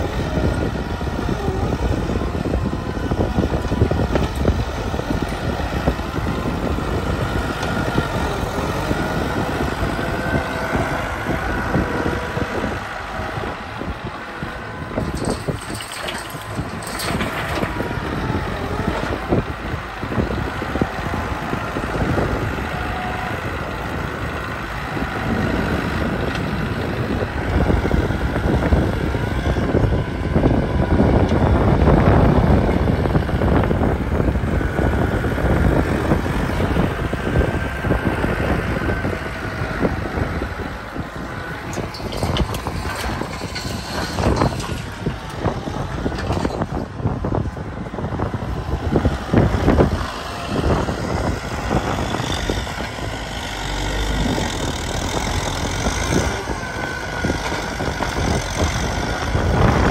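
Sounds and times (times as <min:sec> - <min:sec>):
tractor diesel engine working: 0:00.0 - 0:59.9.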